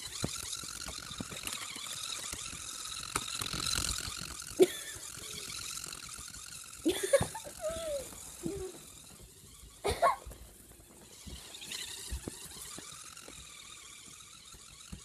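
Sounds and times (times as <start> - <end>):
toy clicking: 0.0 - 15.0
toy motor whirring: 0.0 - 15.0.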